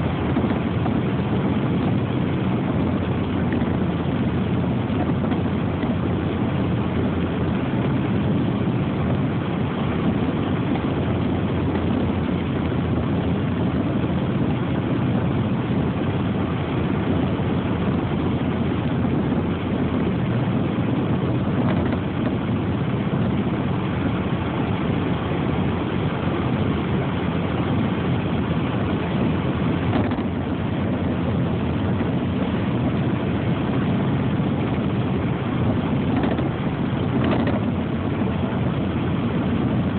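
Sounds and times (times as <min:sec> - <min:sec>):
steady low rumbling: 0:00.0 - 0:39.9.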